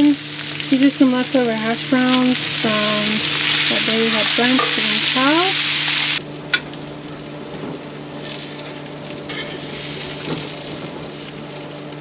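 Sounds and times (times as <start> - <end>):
hash browns sizzling in a frying pan: 0.0 - 12.0.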